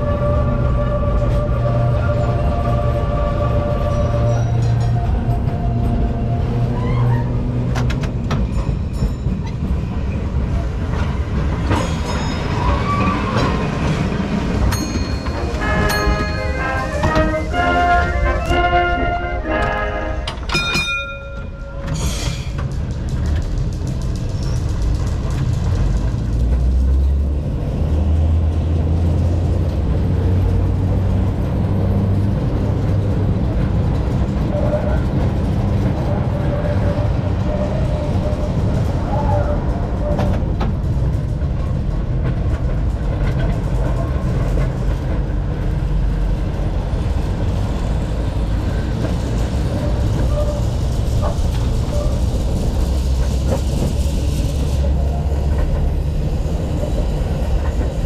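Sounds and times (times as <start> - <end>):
electric tram rumbling on track: 0.0 - 58.0.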